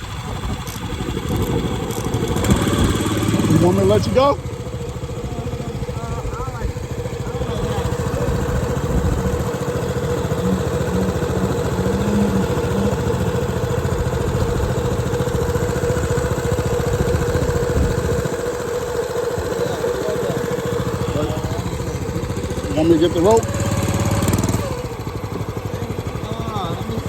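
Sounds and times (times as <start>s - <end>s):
outboard motor idling: 0.0s - 27.0s.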